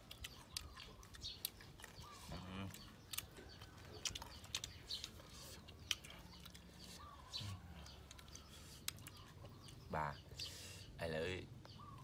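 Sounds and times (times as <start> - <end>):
chewing crunchy fruit: 0.0 - 11.0
faint bird chirps: 0.1 - 12.0.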